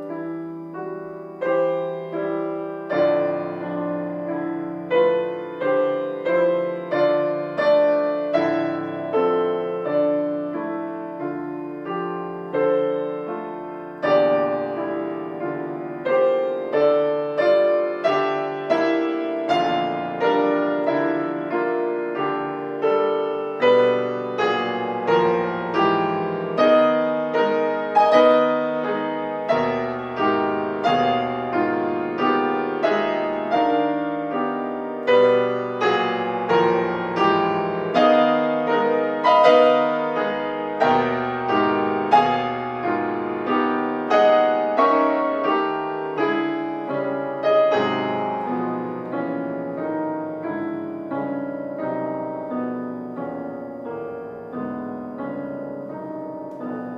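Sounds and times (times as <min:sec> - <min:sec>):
solo grand piano: 0:00.0 - 0:56.9.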